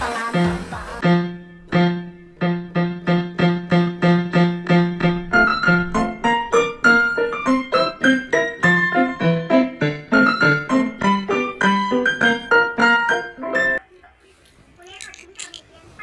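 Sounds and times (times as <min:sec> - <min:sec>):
piano music: 0:00.2 - 0:13.8.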